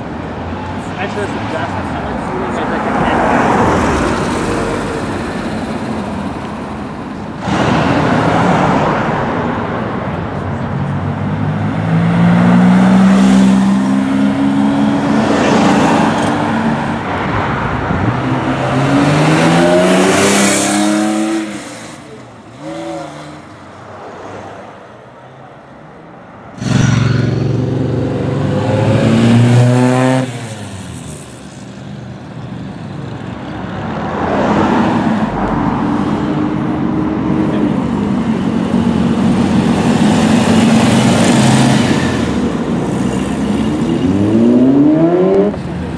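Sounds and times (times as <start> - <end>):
car engines revving and accelerating: 0.0 - 45.9
traffic noise: 0.0 - 45.9.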